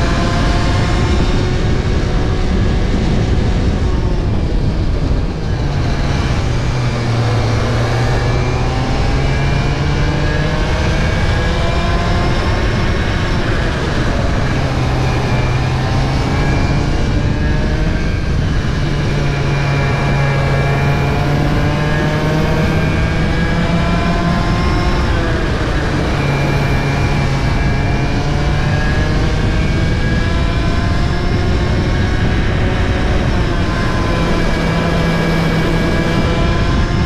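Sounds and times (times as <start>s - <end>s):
kart engine racing: 0.0s - 37.0s
wind rush on microphone: 0.0s - 37.0s.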